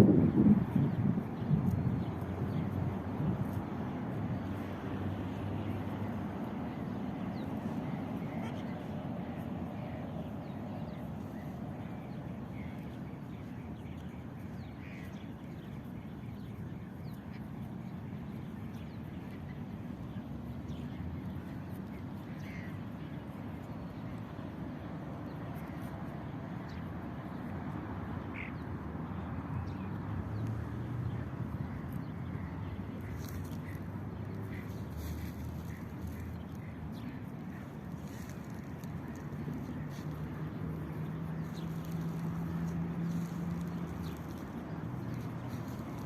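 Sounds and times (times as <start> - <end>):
steady low rumble: 0.0 - 28.0, 29.2 - 46.0
birds chirping: 5.3 - 46.0.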